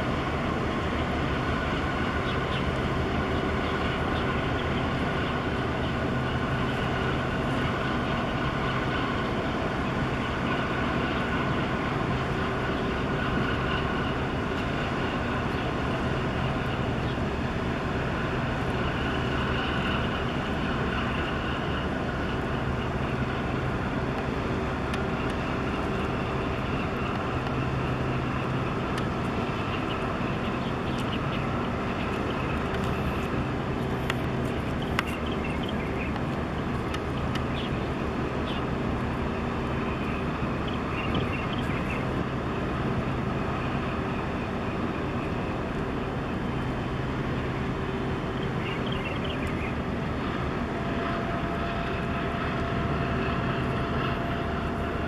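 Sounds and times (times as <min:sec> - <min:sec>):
ship engines droning: 0:00.0 - 0:55.0
steady engine whines: 0:00.0 - 0:55.0.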